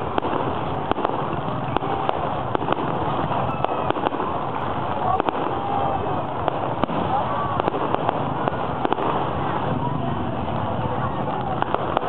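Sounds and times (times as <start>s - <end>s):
fireworks bursting: 0.0s - 12.0s
steady background noise: 0.0s - 12.0s.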